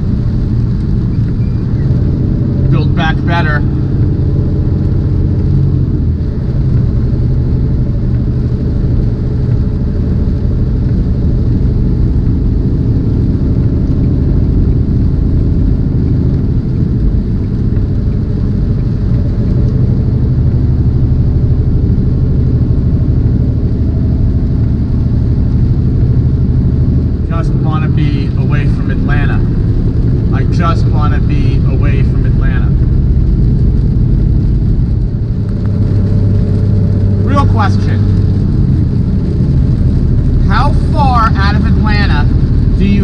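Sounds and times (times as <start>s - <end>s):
diesel engine and road drone: 0.0s - 43.0s.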